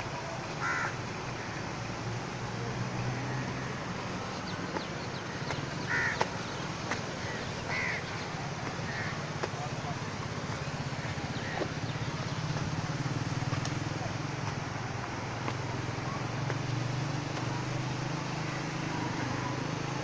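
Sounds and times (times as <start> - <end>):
small engine droning: 0.0 - 20.0.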